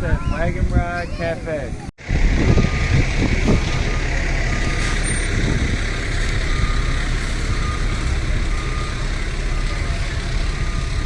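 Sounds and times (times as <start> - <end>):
large vehicle engine running: 2.0 - 11.0.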